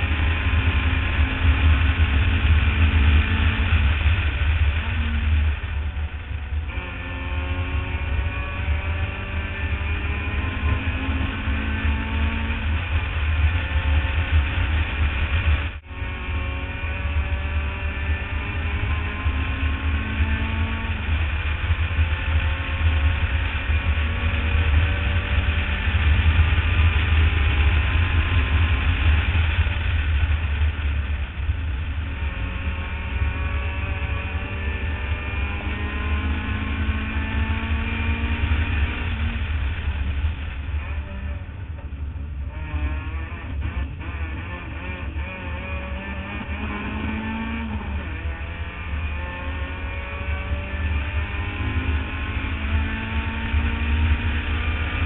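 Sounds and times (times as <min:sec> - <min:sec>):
race car engine at full pace: 0:00.0 - 0:55.0
wind rumble on microphone: 0:00.0 - 0:55.0.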